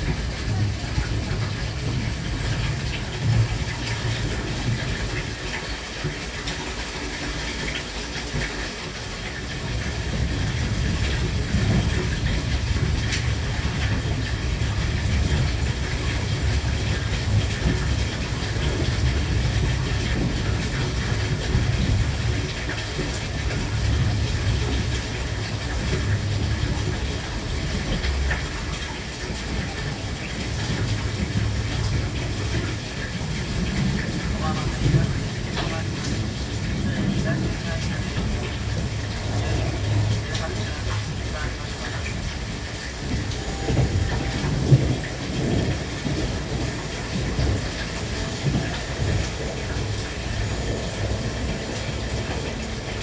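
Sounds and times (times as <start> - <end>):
rail clatter: 0.0 - 53.0
train rumbling: 0.0 - 53.0.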